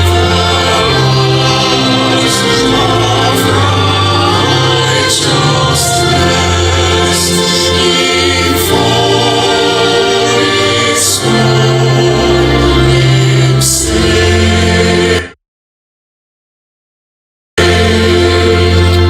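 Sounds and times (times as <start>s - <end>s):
choir singing gospel song: 0.0s - 15.4s, 17.6s - 19.0s.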